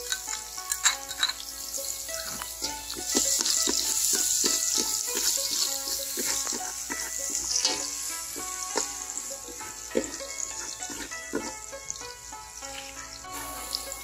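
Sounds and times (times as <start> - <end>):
metal ladle stirring in pot: 0.0 - 11.9
background music: 0.0 - 14.0
garlic sizzling in hot oil: 0.0 - 14.0.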